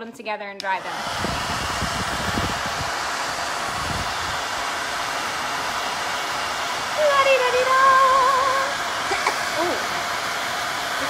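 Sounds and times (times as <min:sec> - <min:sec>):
hair dryer blowing air: 0:00.5 - 0:11.0.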